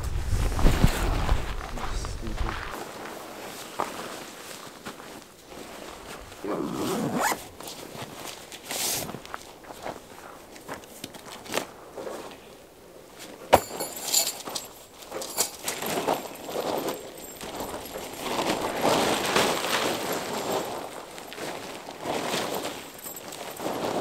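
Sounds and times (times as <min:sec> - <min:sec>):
tent fabric rustling: 0:02.5 - 0:13.4, 0:14.4 - 0:24.0.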